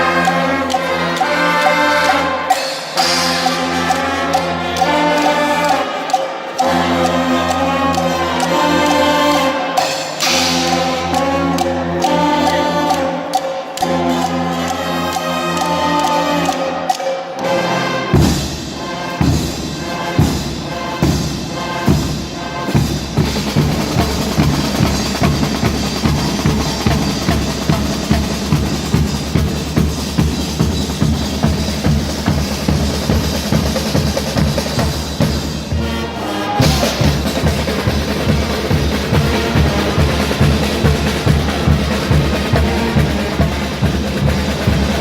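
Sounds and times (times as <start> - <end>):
brass chords: 0.0 - 45.0
carnival band playing: 0.0 - 45.0
cymbals: 0.0 - 45.0.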